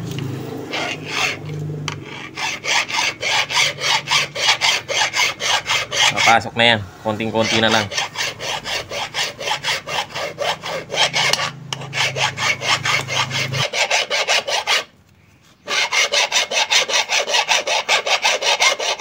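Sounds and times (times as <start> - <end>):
hand file rasping on steel: 0.7 - 6.5, 7.1 - 14.9, 15.6 - 19.0.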